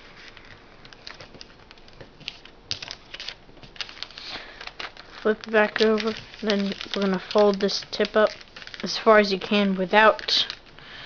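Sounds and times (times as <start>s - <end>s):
paper crackling while folded: 0.0s - 10.8s.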